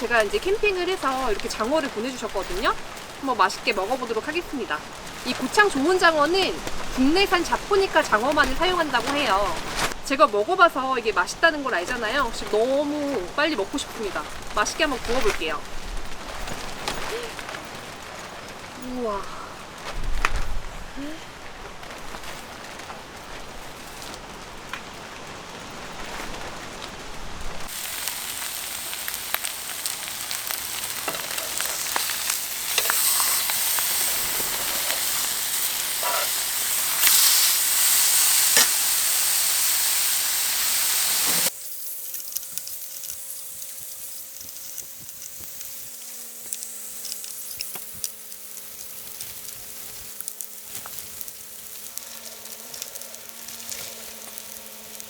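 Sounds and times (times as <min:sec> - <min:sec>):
eel sizzling on grill: 0:00.0 - 0:55.0.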